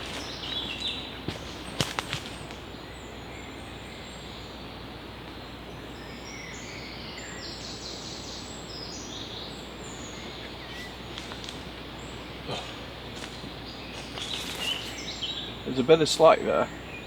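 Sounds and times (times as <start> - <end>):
songbird singing: 0.0 - 17.0
woodland background noise: 0.0 - 17.0.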